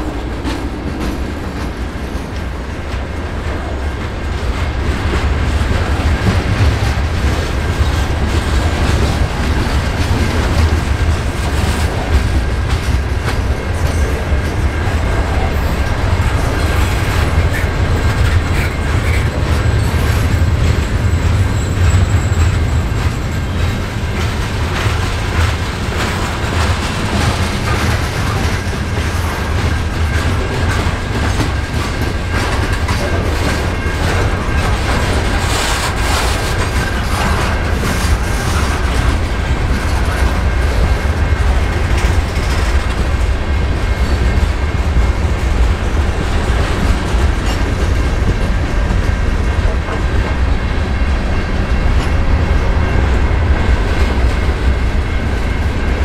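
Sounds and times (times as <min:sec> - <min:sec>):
clickety-clack of wheels on rails: 0:00.0 - 0:56.0
freight cars rumbling: 0:00.0 - 0:56.0.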